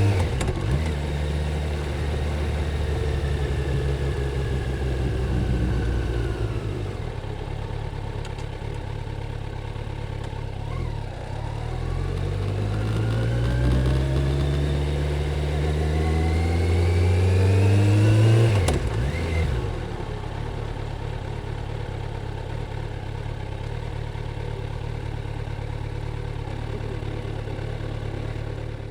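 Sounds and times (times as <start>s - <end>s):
motorcycle engine revving and idling: 0.0s - 28.9s.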